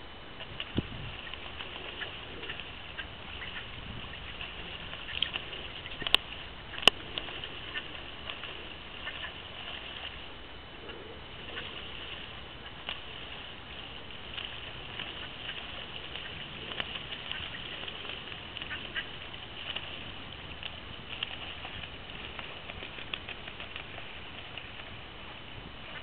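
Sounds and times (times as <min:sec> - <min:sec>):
ducks splashing in water: 0:00.4 - 0:26.0.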